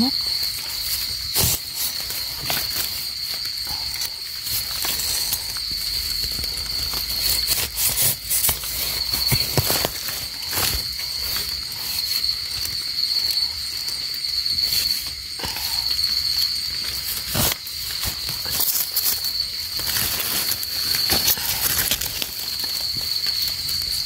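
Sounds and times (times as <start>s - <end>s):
high-pitched insect call: 0.0s - 24.0s.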